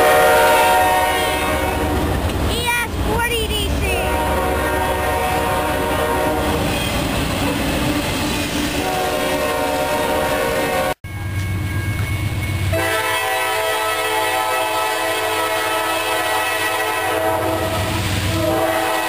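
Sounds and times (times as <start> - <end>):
locomotive horn: 0.0 - 2.2, 3.8 - 11.0, 12.7 - 19.0
low locomotive rumble: 0.0 - 19.0.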